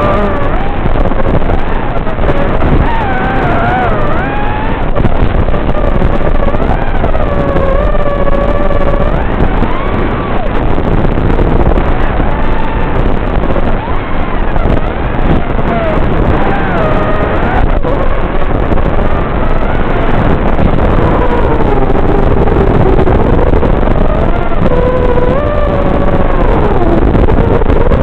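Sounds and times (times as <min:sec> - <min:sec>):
drone motors whining: 0:00.0 - 0:28.0
rushing wind noise: 0:00.0 - 0:28.0.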